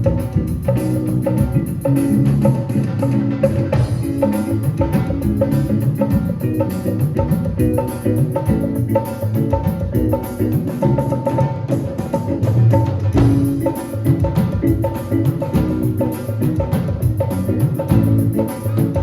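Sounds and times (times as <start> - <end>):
instrumental music with drum beat: 0.0 - 19.0.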